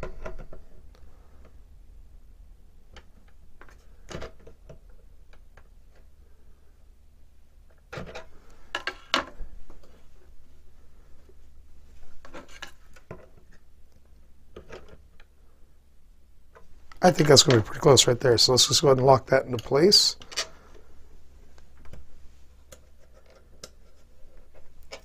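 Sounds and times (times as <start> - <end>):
plastic parts clicking and rubbing: 0.0 - 1.6, 2.8 - 6.2, 7.6 - 10.4, 11.2 - 15.4, 16.5 - 25.0.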